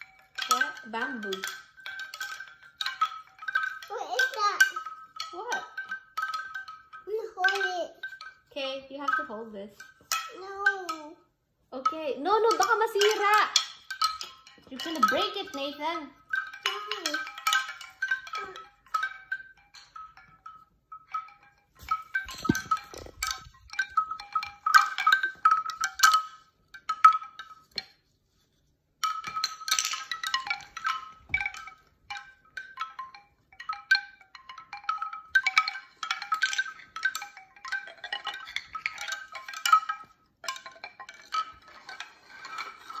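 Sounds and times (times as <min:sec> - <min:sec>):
bamboo wind chime clacking: 0:00.0 - 0:43.0.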